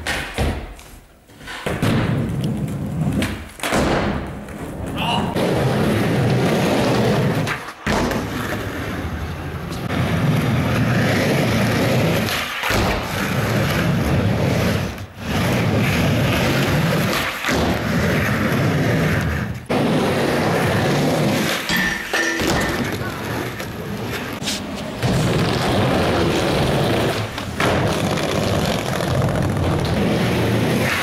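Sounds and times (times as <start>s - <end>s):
skateboard wheels rolling: 0.0s - 31.0s.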